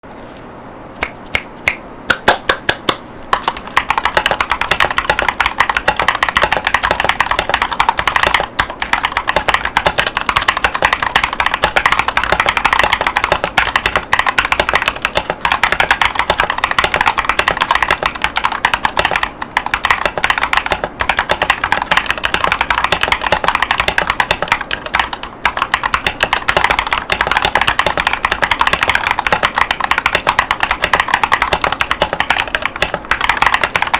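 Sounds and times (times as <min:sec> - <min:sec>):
mechanical keyboard typing: 0:02.8 - 0:33.9.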